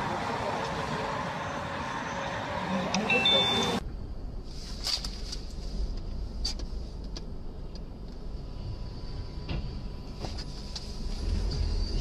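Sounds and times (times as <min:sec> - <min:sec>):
car low rumble: 0:00.0 - 0:12.0.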